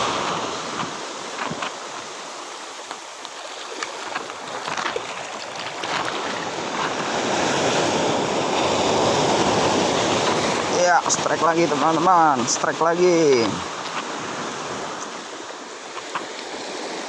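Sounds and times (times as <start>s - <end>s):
sea waves washing at shore: 0.0s - 17.0s.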